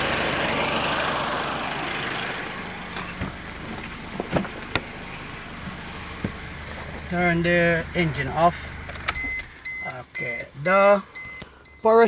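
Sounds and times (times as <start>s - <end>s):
car engine and cooling fans rushing: 0.0s - 12.0s.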